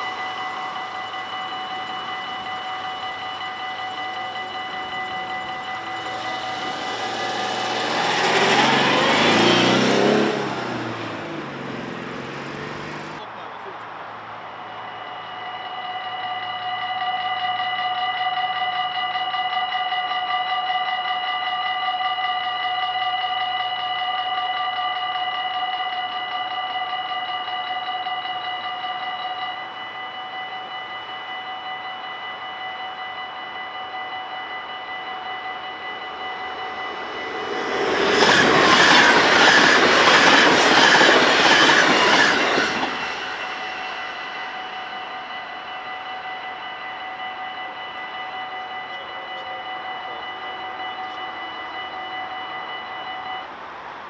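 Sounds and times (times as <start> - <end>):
level crossing warning bells: 0.0 - 54.0
train wheels rushing on rails: 0.0 - 54.0.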